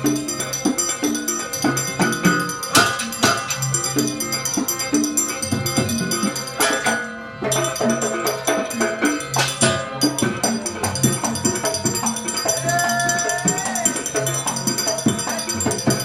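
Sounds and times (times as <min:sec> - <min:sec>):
fast percussion: 0:00.0 - 0:16.0
held melodic note: 0:00.0 - 0:16.0
high metallic jingling: 0:00.0 - 0:16.0.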